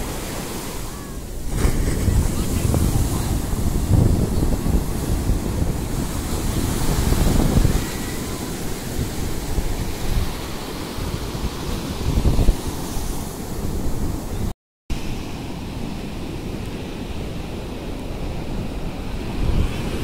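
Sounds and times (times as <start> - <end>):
ocean surf breaking: 0.0 - 20.0
wind buffeting microphone: 1.2 - 14.5, 15.6 - 20.0.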